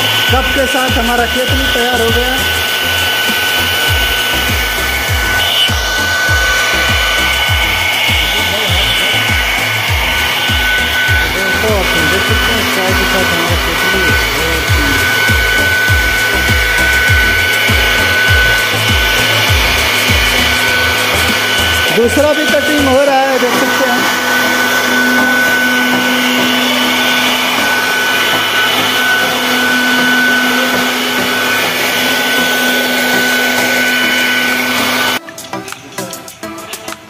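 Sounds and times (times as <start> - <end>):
music with bass beat: 0.0 - 34.0, 34.7 - 37.0
router spindle whining: 0.0 - 35.7.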